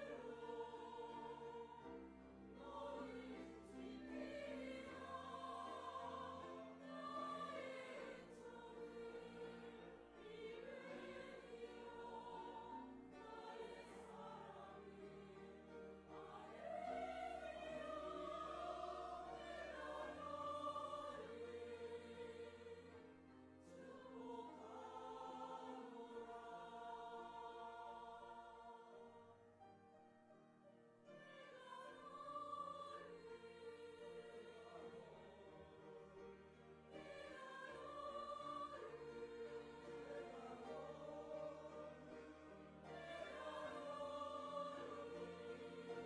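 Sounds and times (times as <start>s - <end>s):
church choir singing: 0.0s - 29.6s, 31.0s - 46.0s.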